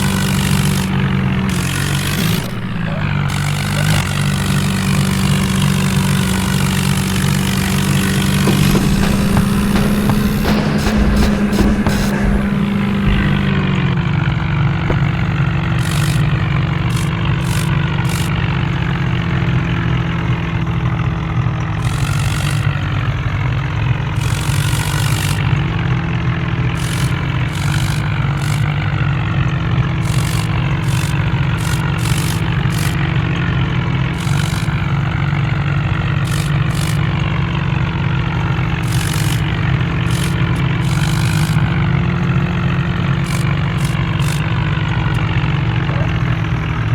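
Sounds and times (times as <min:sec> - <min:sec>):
sharp clicks and rattles: 0:00.0 - 0:19.0, 0:21.8 - 0:46.4
tractor engine running: 0:00.0 - 0:46.9.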